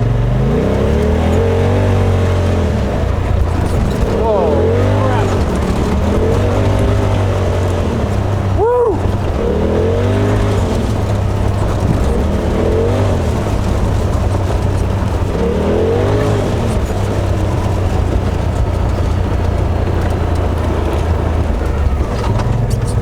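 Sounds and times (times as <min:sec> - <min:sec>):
engine low drone: 0:00.0 - 0:23.0.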